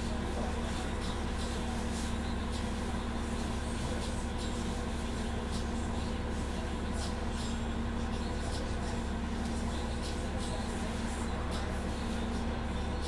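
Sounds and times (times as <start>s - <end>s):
bus engine rumble and hum: 0.0s - 13.0s.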